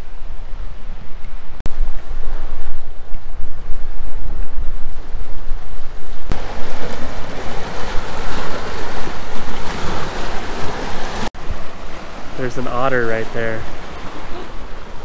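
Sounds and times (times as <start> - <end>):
lake waves splashing: 0.0 - 15.0
wind buffeting microphone: 0.0 - 15.0.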